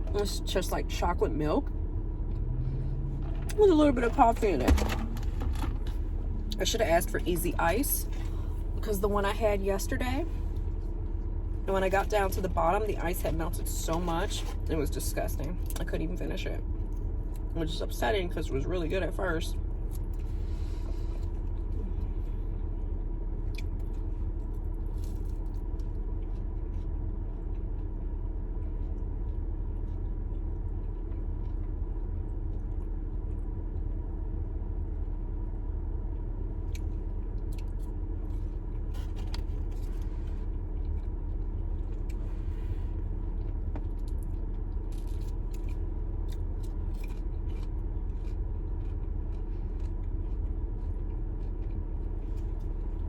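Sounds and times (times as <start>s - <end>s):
car cabin low rumble: 0.0s - 53.0s
crunching and chewing food: 0.0s - 53.0s.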